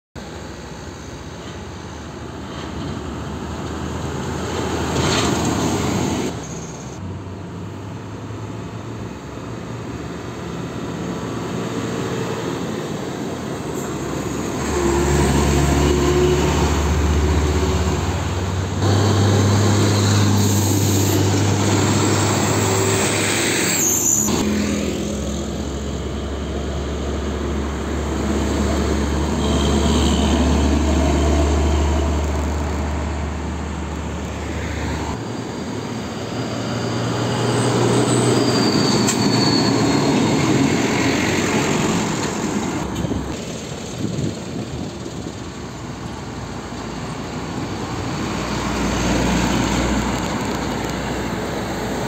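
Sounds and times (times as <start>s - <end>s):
heavy trucks passing: 0.2s - 52.0s.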